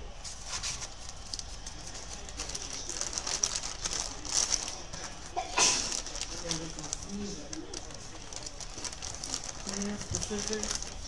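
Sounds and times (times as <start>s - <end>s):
packaging rustling and crinkling: 0.2s - 11.0s.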